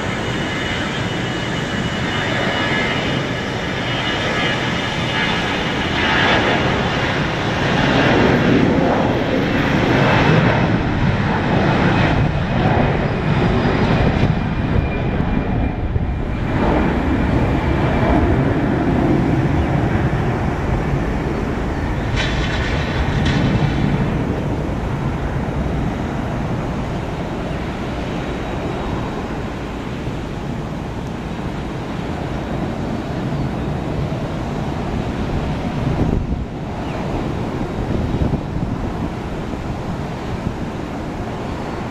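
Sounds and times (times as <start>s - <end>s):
jet engines roaring at takeoff: 0.0s - 41.9s.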